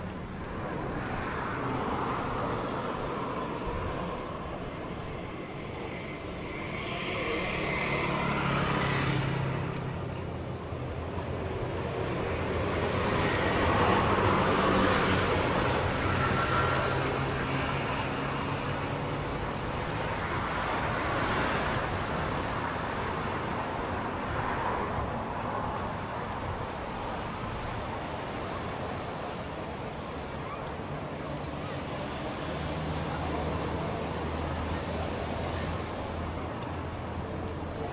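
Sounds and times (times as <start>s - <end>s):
cars passing: 0.0s - 37.9s.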